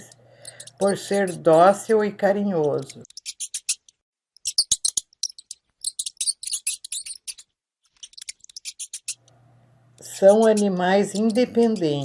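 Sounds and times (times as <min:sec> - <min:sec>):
hamster squeaking: 0:00.0 - 0:09.3, 0:10.0 - 0:12.0.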